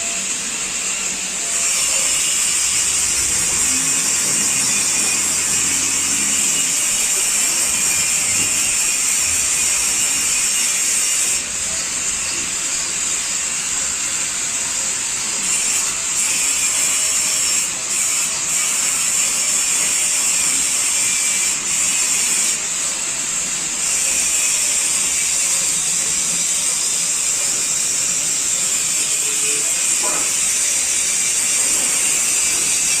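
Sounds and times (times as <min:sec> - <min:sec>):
electric arc welding crackling hiss: 0:00.0 - 0:33.0.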